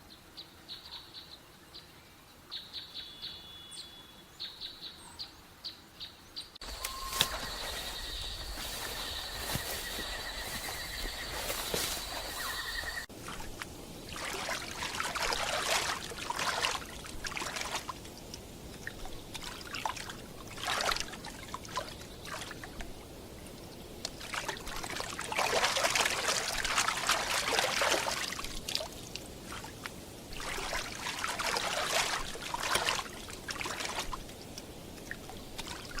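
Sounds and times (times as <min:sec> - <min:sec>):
water trickling and splashing: 0:06.6 - 0:36.0.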